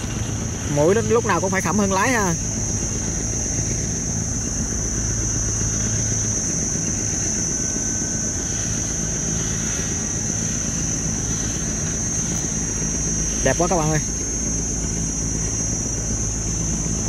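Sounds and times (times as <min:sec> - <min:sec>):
barge diesel engine drone: 0:00.0 - 0:17.0
high-pitched insect buzz: 0:00.0 - 0:17.0.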